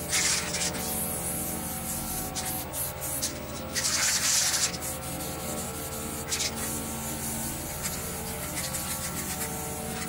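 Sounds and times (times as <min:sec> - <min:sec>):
spray can hissing: 0:00.0 - 0:10.0.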